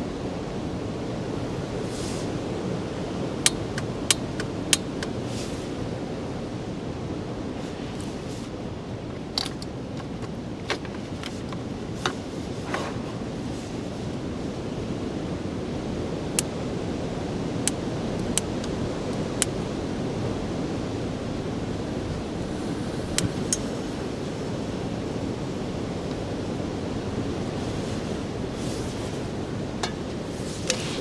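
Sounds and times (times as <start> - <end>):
rushing wind: 0.0 - 31.0.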